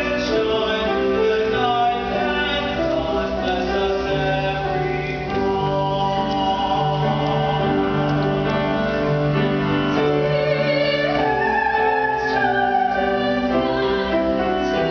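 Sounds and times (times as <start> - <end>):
mixed choir singing: 0.0 - 14.9.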